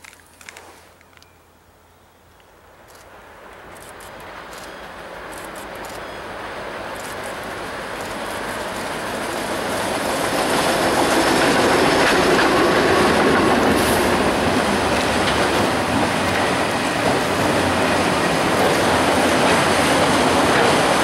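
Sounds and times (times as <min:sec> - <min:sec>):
diesel locomotives passing: 0:01.8 - 0:21.0
freight cars rolling past: 0:03.0 - 0:21.0.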